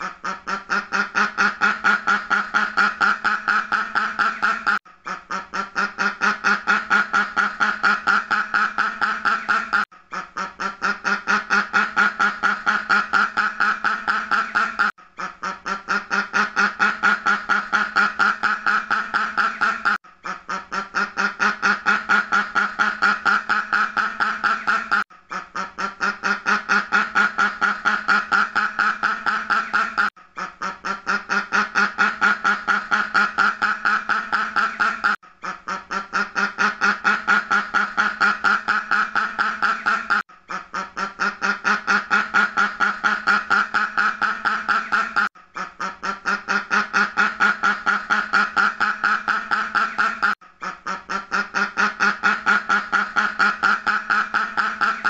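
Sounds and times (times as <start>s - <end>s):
duck quacking rapidly: 0.0s - 55.0s.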